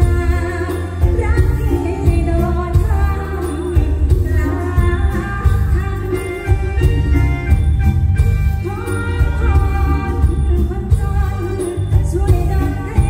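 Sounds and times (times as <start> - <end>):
heavy bass and drum beat: 0.0 - 13.0
live band music: 0.0 - 13.0
woman singing: 0.0 - 13.0.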